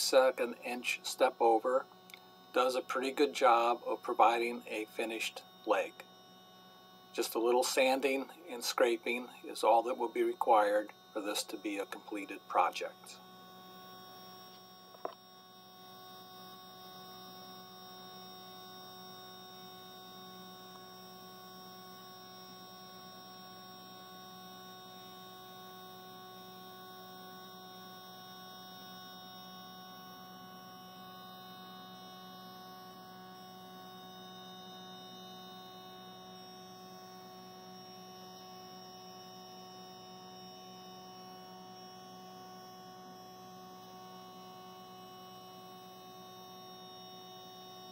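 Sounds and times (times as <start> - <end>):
faint electrical hum: 0.0 - 47.9.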